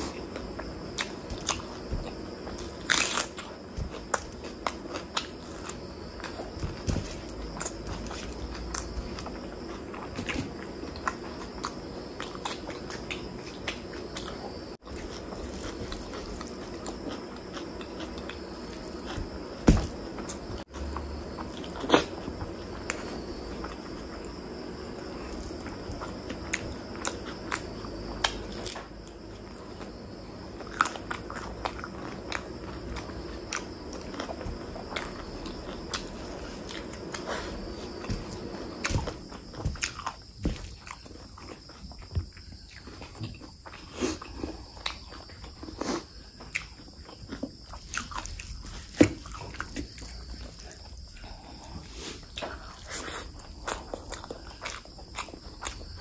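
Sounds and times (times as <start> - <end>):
faint steady hum: 0.0 - 56.0
person chewing with mouth smacking: 0.0 - 56.0.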